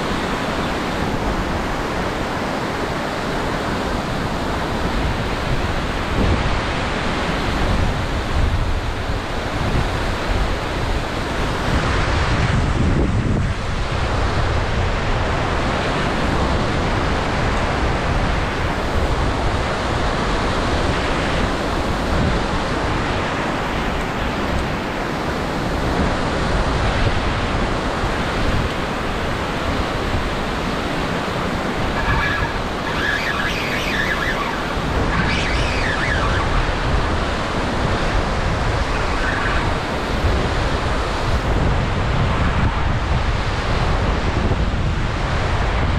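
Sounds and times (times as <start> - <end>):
water rushing over weir: 0.0 - 45.9
wind buffeting microphone: 0.0 - 45.9.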